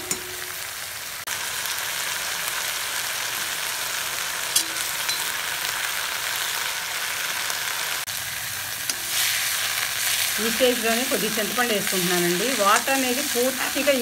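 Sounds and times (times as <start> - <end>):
mint leaves sizzling in oil: 0.0 - 14.0.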